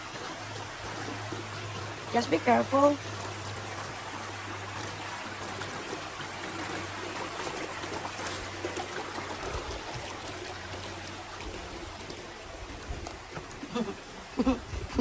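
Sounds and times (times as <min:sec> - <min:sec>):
stream water flowing over rocks: 0:00.0 - 0:15.0.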